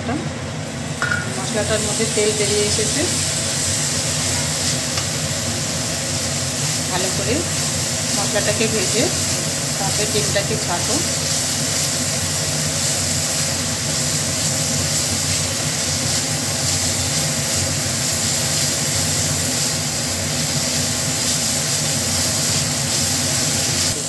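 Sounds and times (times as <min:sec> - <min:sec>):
paste sizzling in hot oil: 0:00.7 - 0:24.0.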